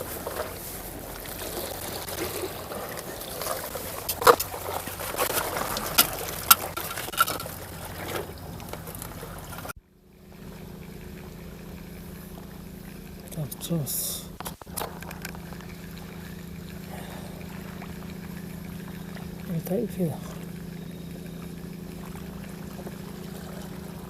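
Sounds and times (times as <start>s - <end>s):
steady hum: 0.0s - 24.0s
water lapping on shore: 0.0s - 24.0s.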